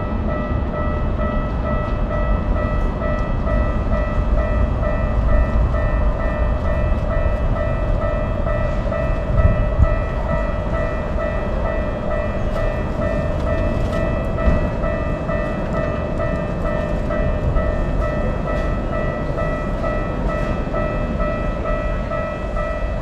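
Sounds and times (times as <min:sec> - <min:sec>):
railroad crossing bell ringing: 0:00.0 - 0:23.0
train going by: 0:00.0 - 0:23.0.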